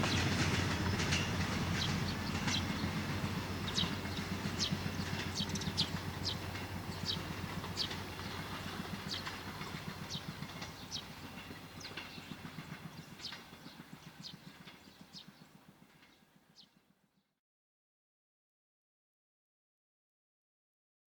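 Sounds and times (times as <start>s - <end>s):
train wheels clattering over rails: 0.0s - 16.9s
train rumble: 0.0s - 17.0s.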